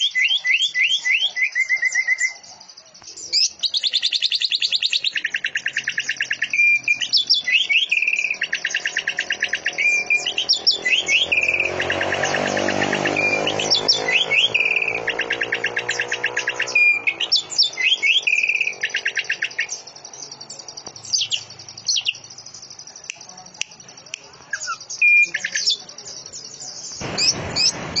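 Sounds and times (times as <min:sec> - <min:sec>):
bird singing buzzing trills and whistles: 0:00.0 - 0:27.7.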